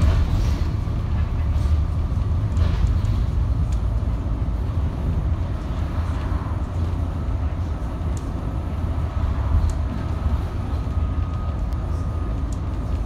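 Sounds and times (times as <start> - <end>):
bus engine rumble: 0.0 - 13.0
road noise: 0.0 - 13.0
faint steady whine: 0.1 - 13.0.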